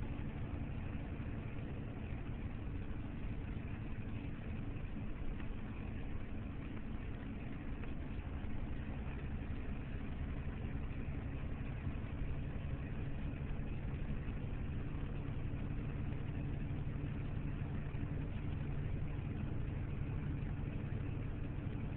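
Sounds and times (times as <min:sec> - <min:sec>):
diesel truck engine drone: 0:00.0 - 0:21.9.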